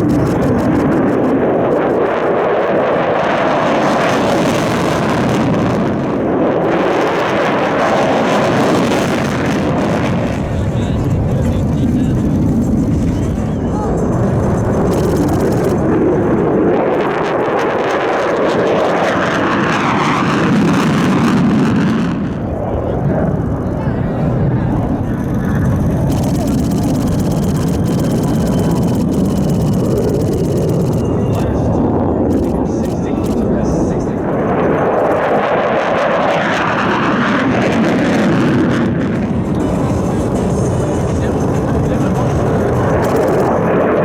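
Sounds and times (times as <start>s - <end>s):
jet taking off: 0.0s - 44.0s.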